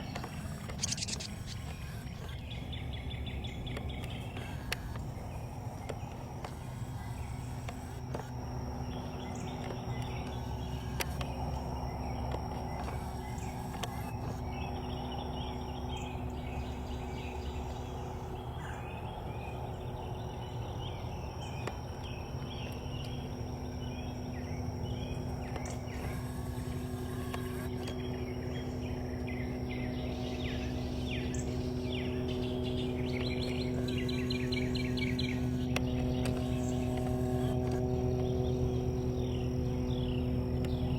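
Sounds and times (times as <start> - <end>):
birds chirping: 0.0 - 40.9
steady low hum: 0.0 - 40.9.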